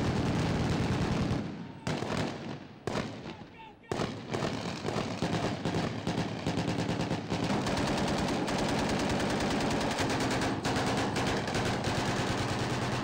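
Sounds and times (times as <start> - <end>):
rapid automatic gunfire: 0.0 - 3.2, 3.9 - 13.0.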